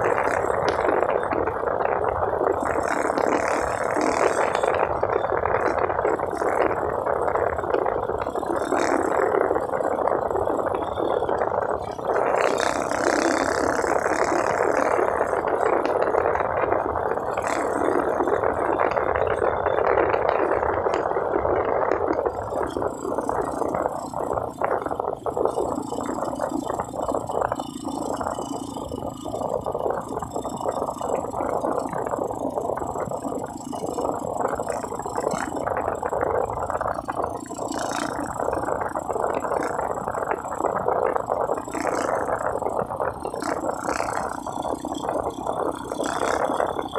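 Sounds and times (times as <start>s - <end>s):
motorcycle rattling rush: 0.0s - 46.9s.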